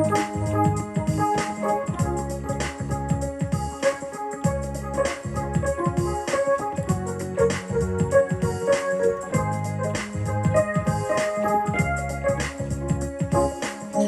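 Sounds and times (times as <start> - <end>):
bass line: 0.0 - 3.8, 4.4 - 14.0
held keyboard chords: 0.0 - 14.0
steady percussive beat: 0.0 - 14.0.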